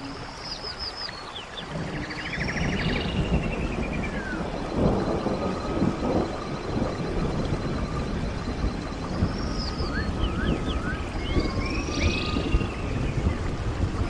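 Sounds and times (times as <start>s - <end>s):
birds singing: 0.0s - 14.0s
stream water rushing: 0.0s - 14.0s.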